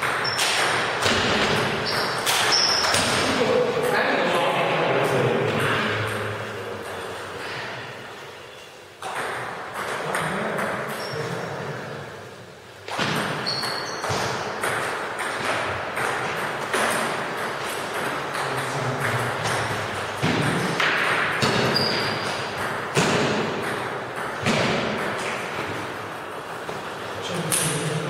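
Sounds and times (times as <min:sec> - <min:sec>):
sports hall background noise: 0:00.0 - 0:28.0.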